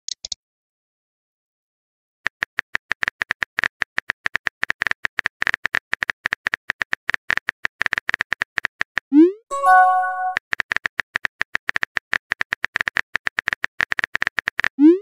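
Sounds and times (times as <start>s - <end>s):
simulated keyboard typing clicks: 0.1s - 0.4s, 2.3s - 14.9s.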